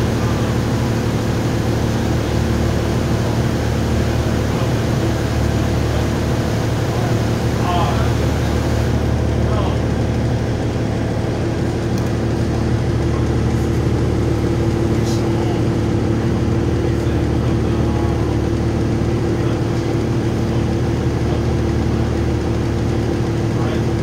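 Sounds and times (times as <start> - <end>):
bus diesel engine humming: 0.0 - 24.0.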